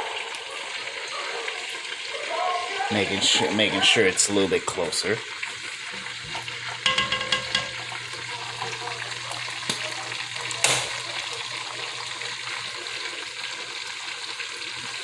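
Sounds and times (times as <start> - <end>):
wings sizzling in hot oil: 0.0 - 15.0.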